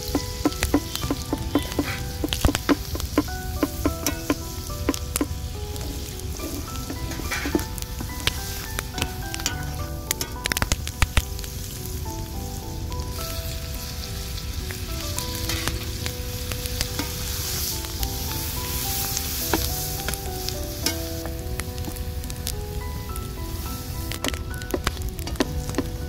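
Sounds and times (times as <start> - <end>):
faint melody: 0.0 - 26.0
vegetables sizzling in wok: 0.0 - 26.0.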